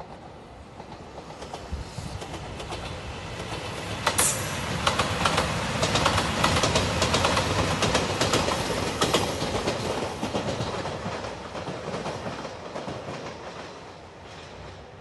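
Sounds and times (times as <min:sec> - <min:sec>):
train passing at speed: 0:00.0 - 0:15.0
wheels clacking over rail joints: 0:00.8 - 0:13.9.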